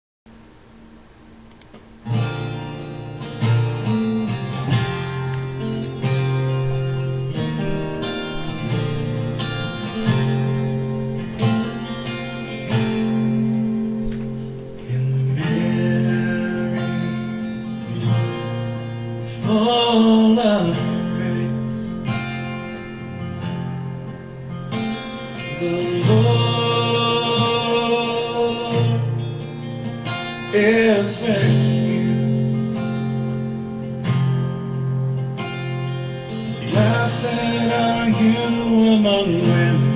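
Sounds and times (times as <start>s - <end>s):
acoustic guitar strumming chords: 0.4s - 39.9s.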